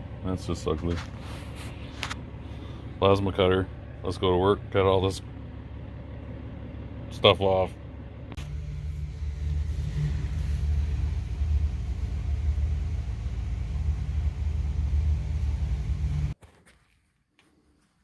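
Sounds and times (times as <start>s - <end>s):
engine running: 0.0s - 16.4s.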